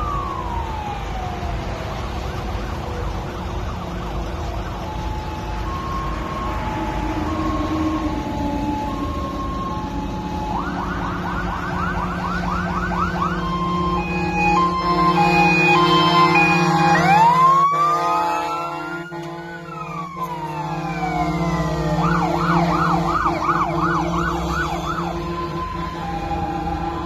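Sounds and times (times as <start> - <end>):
engine and traffic noise: 0.0 - 27.0
fire engine siren: 0.0 - 27.0.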